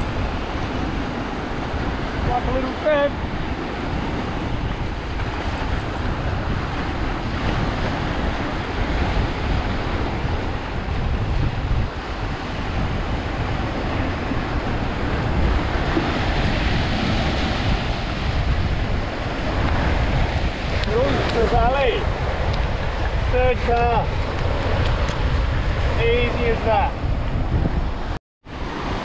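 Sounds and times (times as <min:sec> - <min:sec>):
waves breaking on rocks: 0:00.0 - 0:27.0
wind buffeting microphone: 0:00.0 - 0:29.0.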